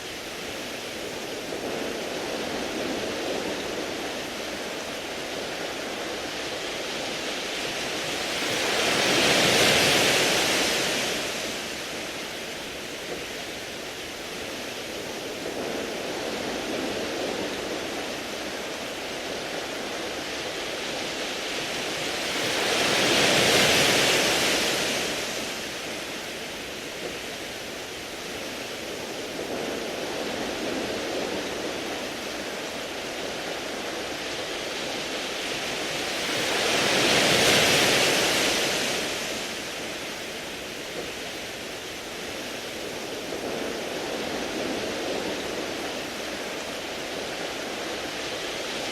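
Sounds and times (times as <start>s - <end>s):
waves washing over pebbles: 0.0s - 48.9s.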